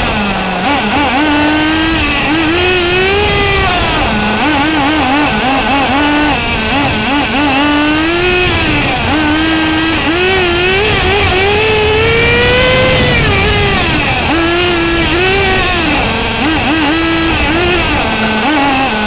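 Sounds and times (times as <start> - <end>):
rc car engine revving: 0.0 - 19.0.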